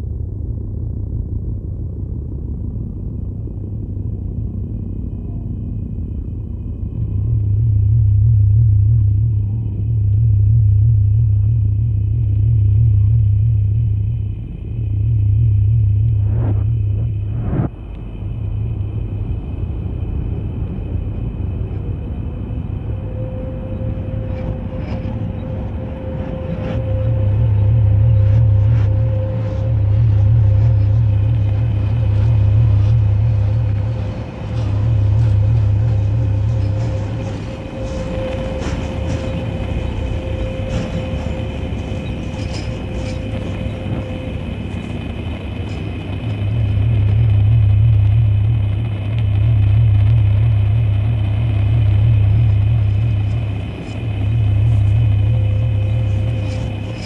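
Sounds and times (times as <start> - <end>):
deep rumble: 0.0 - 57.0
steady hum: 0.0 - 57.0.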